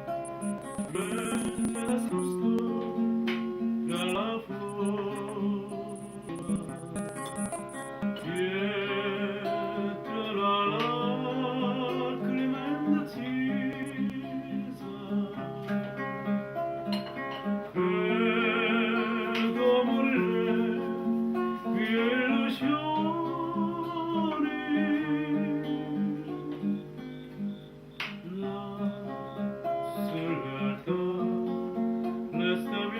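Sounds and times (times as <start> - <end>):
plucked guitar-like accompaniment: 0.0 - 32.9.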